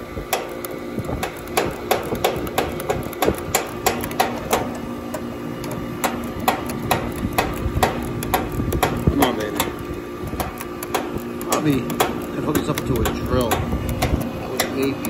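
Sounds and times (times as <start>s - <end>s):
condensing unit humming: 0.0s - 15.0s
ratchet tool clicking: 0.3s - 15.0s.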